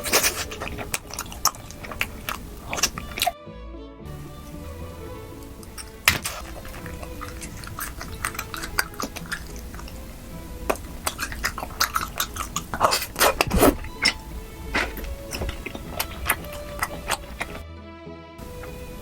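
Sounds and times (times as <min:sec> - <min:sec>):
wet chewing clicks and smacks: 0:00.0 - 0:03.4, 0:05.4 - 0:17.6
quiet background music: 0:00.0 - 0:19.0.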